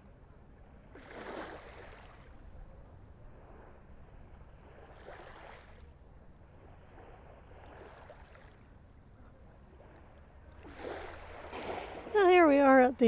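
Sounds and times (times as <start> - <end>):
small waves lapping on beach: 0.0 - 13.0.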